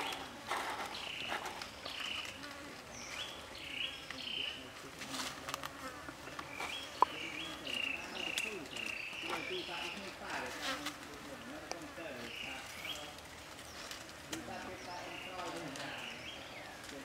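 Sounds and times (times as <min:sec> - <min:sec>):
dry leaves and twigs rustling: 0:00.0 - 0:17.0
insects buzzing: 0:00.0 - 0:17.0.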